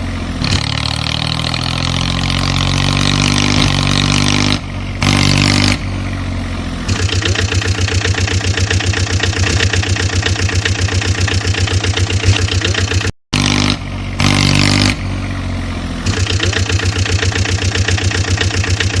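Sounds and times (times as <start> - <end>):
tractor engine chugging: 0.0 - 19.0.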